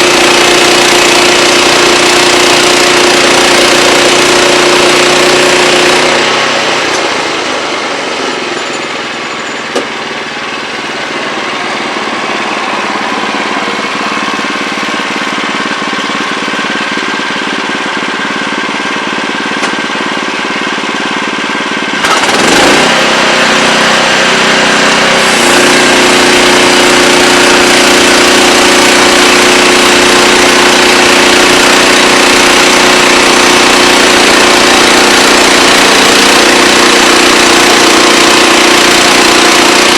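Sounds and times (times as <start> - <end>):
sawmill mechanical drone: 0.0 - 39.9.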